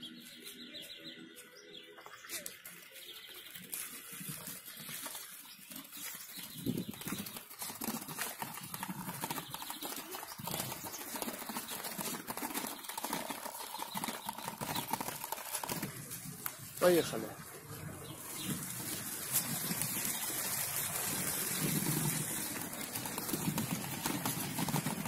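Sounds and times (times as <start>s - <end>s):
scooter wheels rattling on paving: 0.1s - 25.0s.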